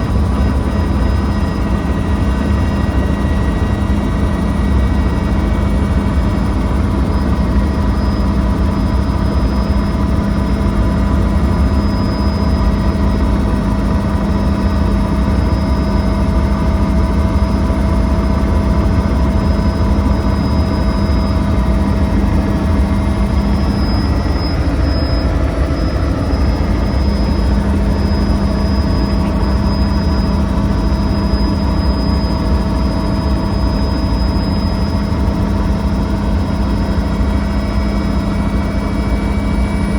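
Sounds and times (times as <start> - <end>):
helicopter engine and rotors droning: 0.0 - 39.9.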